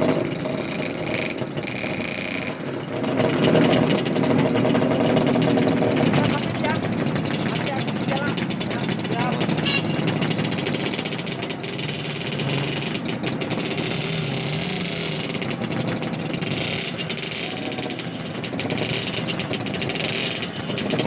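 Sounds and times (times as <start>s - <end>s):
motorcycles revving and idling: 0.0s - 21.0s.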